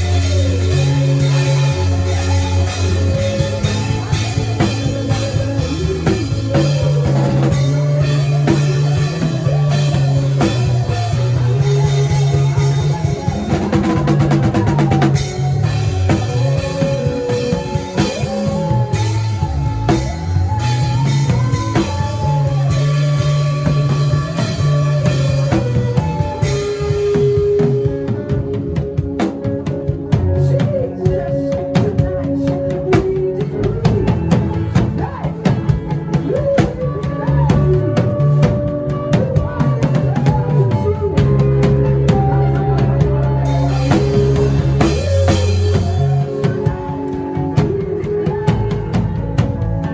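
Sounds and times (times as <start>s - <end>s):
drum kit playing: 0.0s - 49.9s
music track with bass line: 0.0s - 49.9s.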